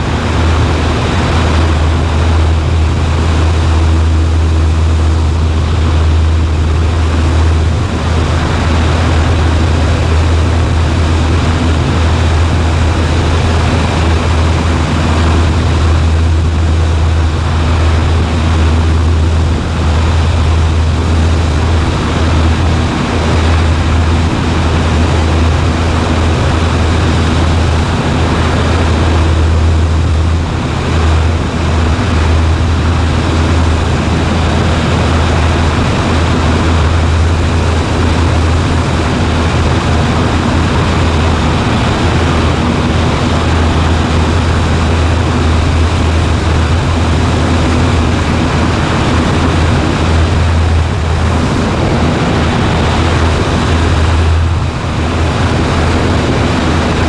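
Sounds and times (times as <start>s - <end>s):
light plane engine droning: 0.0s - 57.0s.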